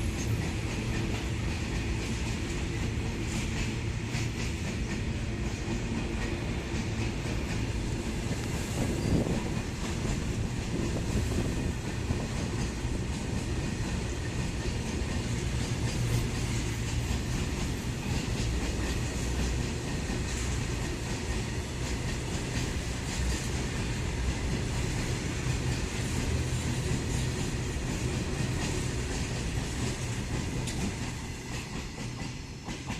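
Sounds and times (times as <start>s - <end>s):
rumble of rolling train wagons: 0.0s - 32.9s
train wheels clicking over rail joints: 0.0s - 32.9s.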